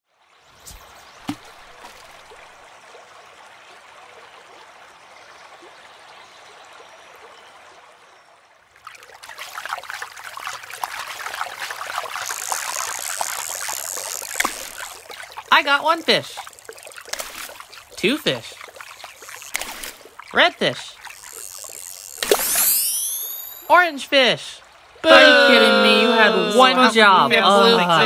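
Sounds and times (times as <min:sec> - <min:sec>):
running water trickling: 0:00.2 - 0:28.0.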